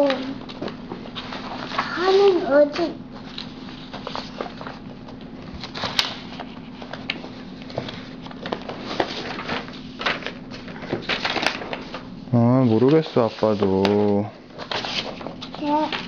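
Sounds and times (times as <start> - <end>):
paper sheets rustling: 0.0 - 16.0
steady low hum: 0.0 - 16.0.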